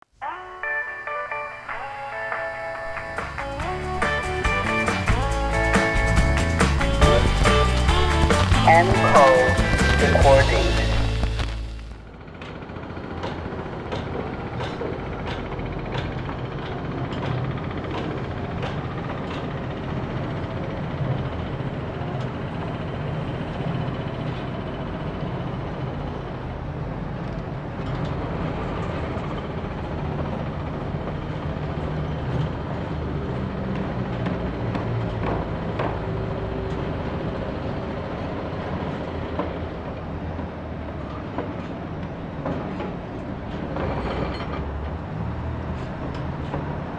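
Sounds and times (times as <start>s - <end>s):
machinery engine drone: 2.8s - 46.9s.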